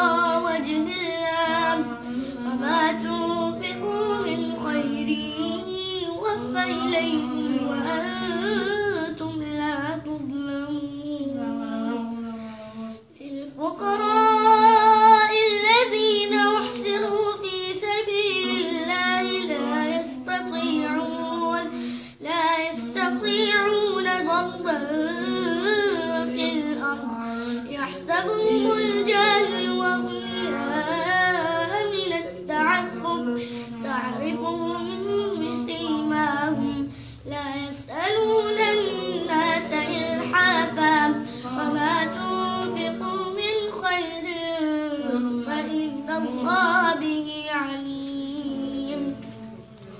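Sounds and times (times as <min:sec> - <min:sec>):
boy reciting melodically: 0:00.0 - 0:49.9.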